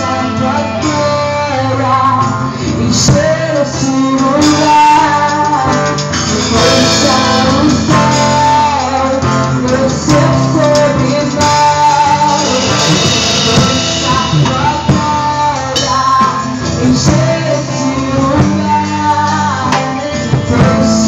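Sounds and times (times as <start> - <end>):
bass: 0.0 - 21.0
guitar: 0.0 - 21.0
person singing gospel song: 0.0 - 21.0
drum and cymbal hits: 4.1 - 21.0.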